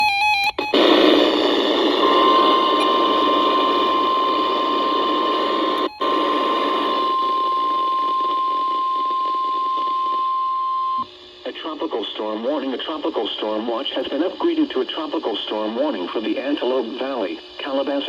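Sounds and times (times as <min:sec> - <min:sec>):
radio static hiss: 0:00.6 - 0:18.0.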